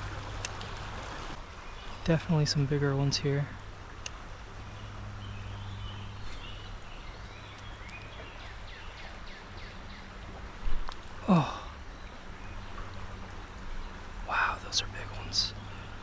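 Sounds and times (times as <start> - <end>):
shallow creek flowing: 0.0 - 16.0.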